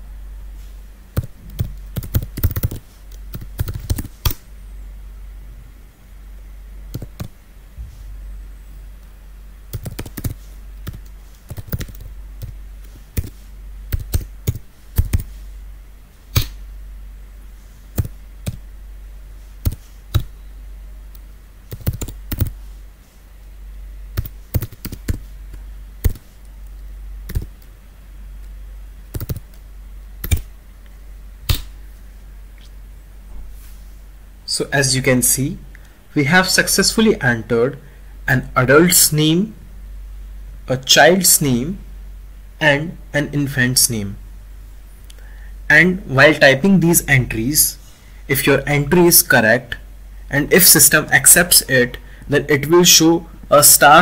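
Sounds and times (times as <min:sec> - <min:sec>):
low hum: 0:00.0 - 0:48.9.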